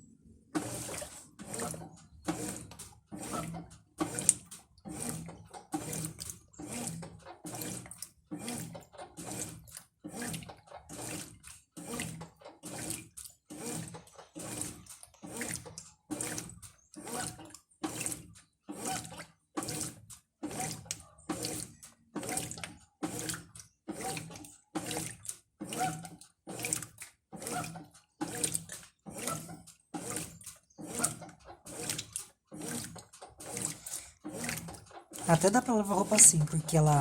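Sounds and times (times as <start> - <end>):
washing machine agitator swishing: 0.0 - 37.0.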